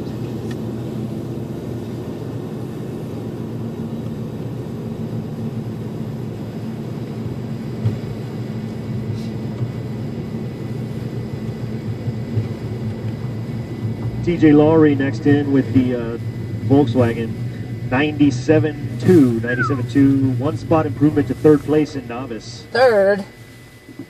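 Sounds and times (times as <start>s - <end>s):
car engine and tyre drone: 0.0s - 22.6s.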